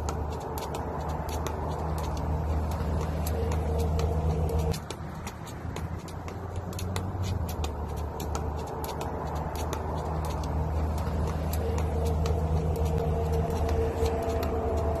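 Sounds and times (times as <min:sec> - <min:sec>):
jump rope slapping ground: 0:00.0 - 0:15.0.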